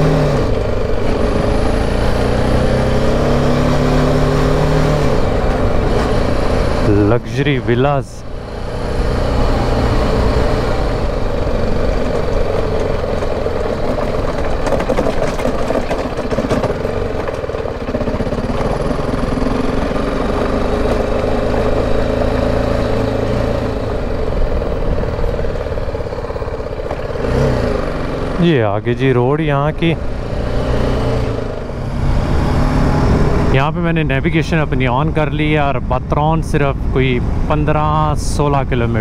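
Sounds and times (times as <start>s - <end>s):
motorcycle engine running: 0.0s - 39.0s
road noise: 0.0s - 39.0s.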